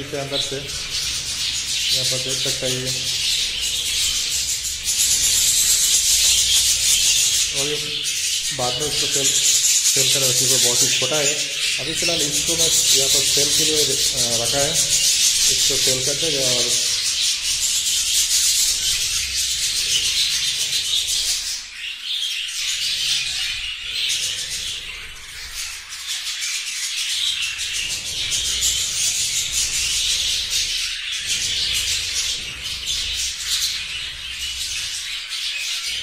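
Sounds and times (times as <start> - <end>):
budgerigars chattering and chirping: 0.0 - 36.0.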